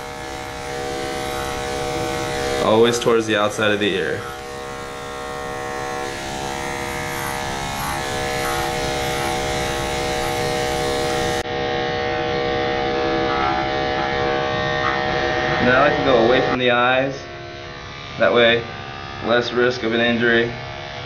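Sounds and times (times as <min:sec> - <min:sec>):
electric clippers buzzing: 0:00.0 - 0:19.3, 0:20.1 - 0:21.0.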